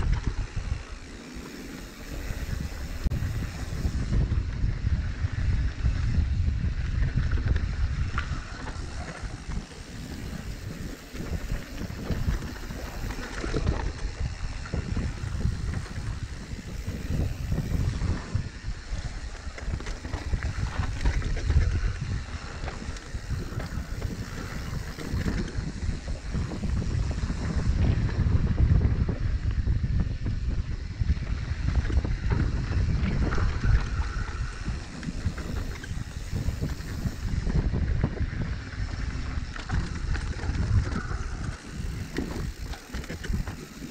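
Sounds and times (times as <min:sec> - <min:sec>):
bike rattling over ground: 0:00.0 - 0:43.9
wind buffeting microphone: 0:00.0 - 0:43.9.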